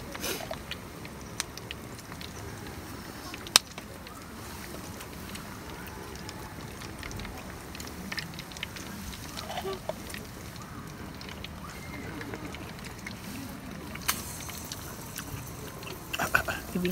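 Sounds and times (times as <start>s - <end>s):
hot oil sizzling: 0.0s - 16.9s
small pops of frying: 0.0s - 16.9s.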